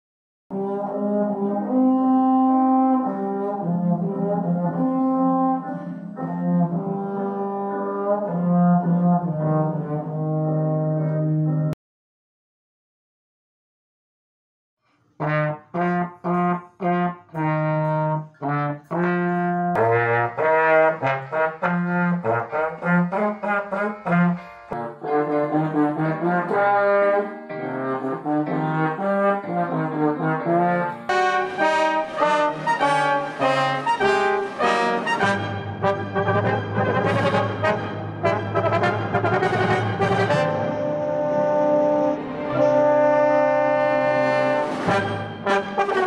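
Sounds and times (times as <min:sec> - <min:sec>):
trombones playing simple tunes: 0:00.5 - 0:11.7, 0:15.2 - 0:46.0.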